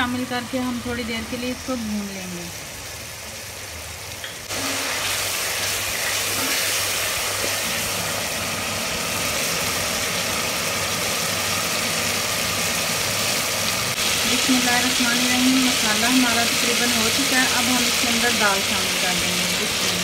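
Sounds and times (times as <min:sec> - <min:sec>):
vegetables sizzling in a pot: 0:00.0 - 0:20.0.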